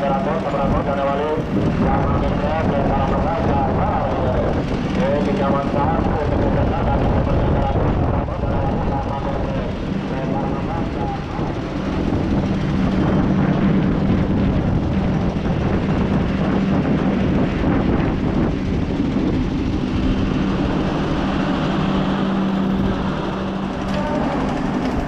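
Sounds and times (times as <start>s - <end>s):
constant low hum: 0.0s - 25.0s
train rumbling along track: 0.0s - 25.0s.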